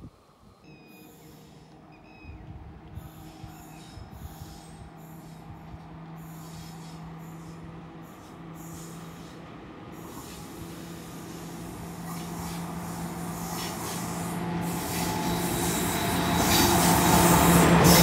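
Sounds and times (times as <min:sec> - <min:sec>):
train approaching: 0:00.0 - 0:18.0.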